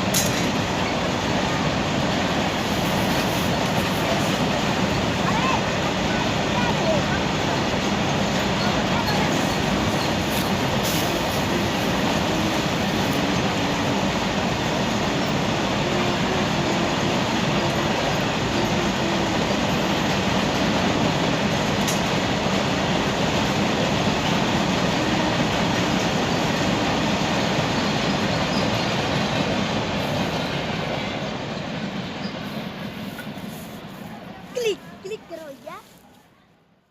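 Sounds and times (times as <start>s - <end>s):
train wheels rumbling on rails: 0.0s - 36.1s.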